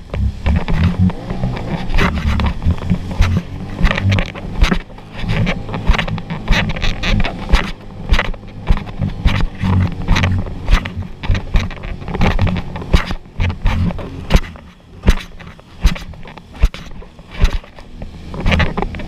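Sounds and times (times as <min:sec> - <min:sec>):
hull slapping waves: 0:00.0 - 0:19.0.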